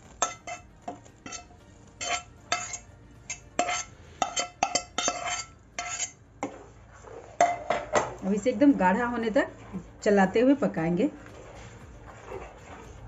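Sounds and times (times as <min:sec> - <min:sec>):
metal spoon scraping pan: 0:00.0 - 0:13.0.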